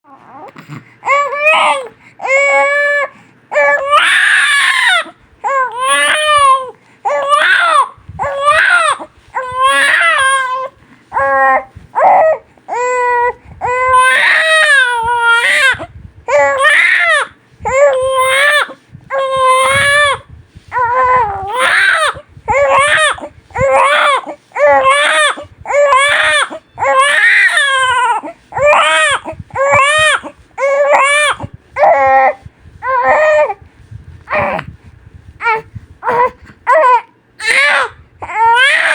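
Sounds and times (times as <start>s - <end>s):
newborn baby crying: 0.1s - 33.6s, 35.4s - 38.9s.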